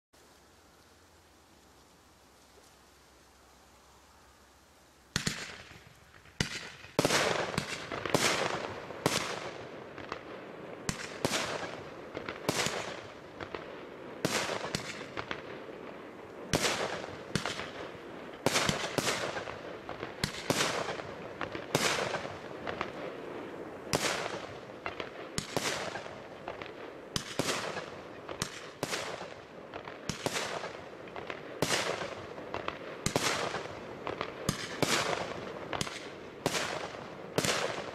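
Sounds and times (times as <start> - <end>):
hiss and crackle: 0.2 - 37.9.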